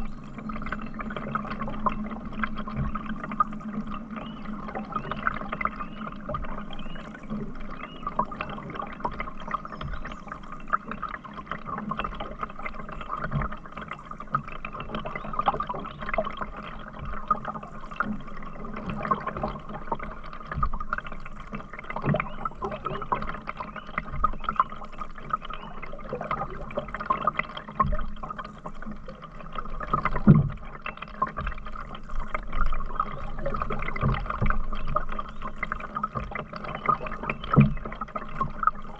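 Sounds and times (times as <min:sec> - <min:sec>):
water dripping and trickling: 0:00.0 - 0:38.9.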